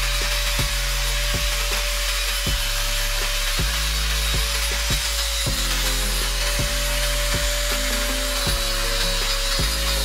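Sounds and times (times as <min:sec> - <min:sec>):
angle grinder motor whine: 0:00.0 - 0:10.0
hiss of metal being ground: 0:00.0 - 0:10.0.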